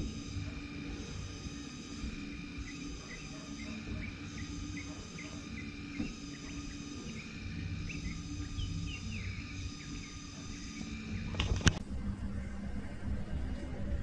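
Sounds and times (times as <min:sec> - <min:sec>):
insects trilling: 0:00.0 - 0:11.8
low steady rumble: 0:00.0 - 0:14.0.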